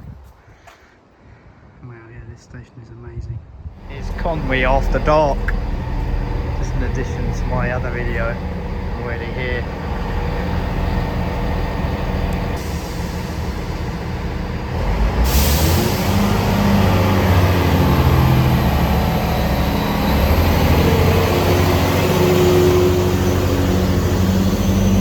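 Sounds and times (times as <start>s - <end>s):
diesel train engine running: 3.8s - 25.0s
loud hiss: 3.8s - 25.0s.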